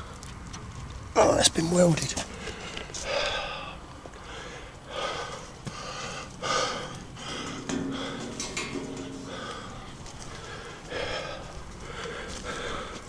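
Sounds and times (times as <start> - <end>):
man breathing heavily: 2.3 - 13.0.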